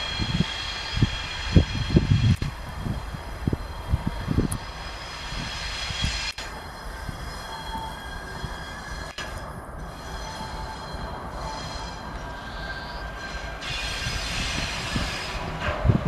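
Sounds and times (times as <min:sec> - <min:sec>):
locomotive rumble: 0:00.0 - 0:16.0
wheels squealing: 0:02.8 - 0:16.0.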